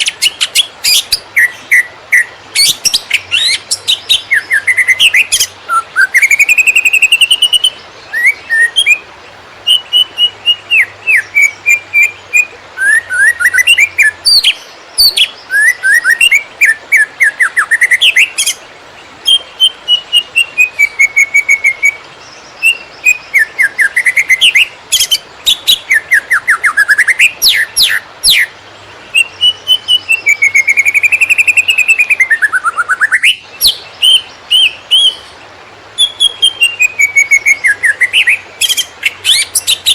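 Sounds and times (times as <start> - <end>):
bird singing rapid chirps and trills: 0.0 - 39.9.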